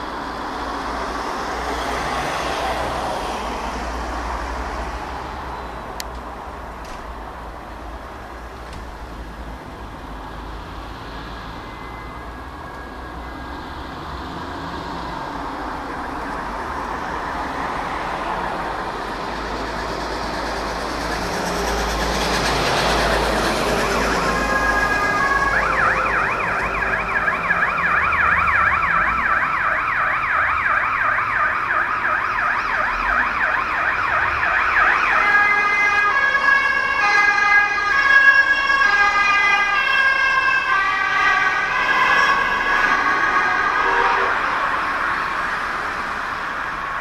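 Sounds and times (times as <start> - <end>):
emergency vehicle siren: 0.0 - 6.1, 7.9 - 47.0
traffic noise: 0.0 - 47.0.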